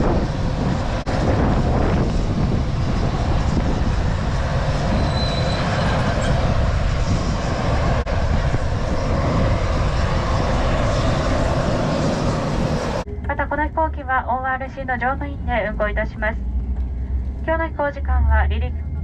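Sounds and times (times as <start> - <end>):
turboprop engines rumbling in cabin: 0.0 - 19.0.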